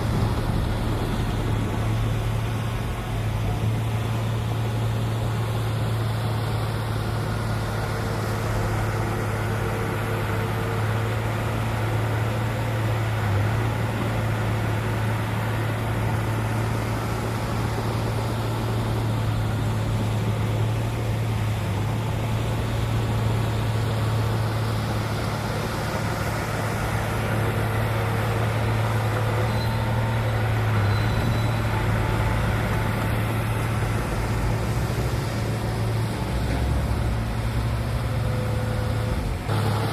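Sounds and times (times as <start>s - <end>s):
diesel machinery engine humming: 0.0s - 39.9s.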